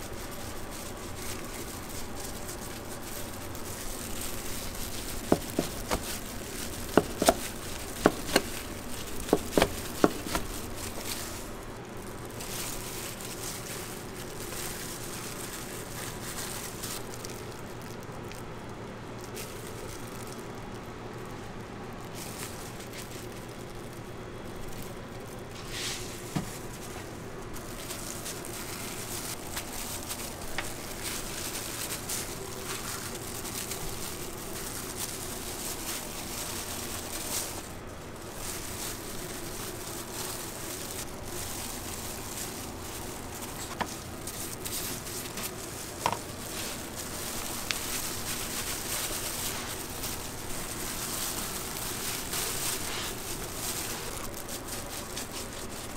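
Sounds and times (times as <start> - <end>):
soft handling sounds: 0.0 - 55.9
steady background hiss: 0.0 - 55.9.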